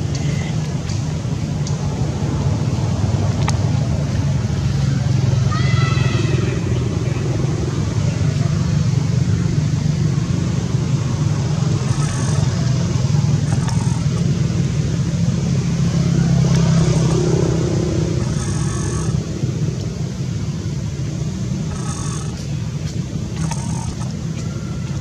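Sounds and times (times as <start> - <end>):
engine rumbling: 0.0 - 25.0.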